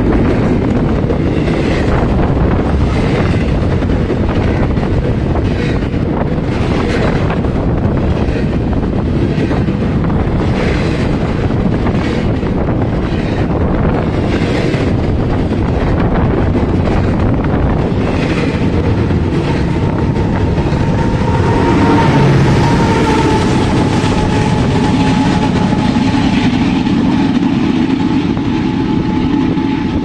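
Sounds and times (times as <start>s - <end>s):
diesel locomotive engine: 0.0s - 30.0s
locomotive whine: 0.0s - 30.0s
train wheels on rails: 0.0s - 30.0s.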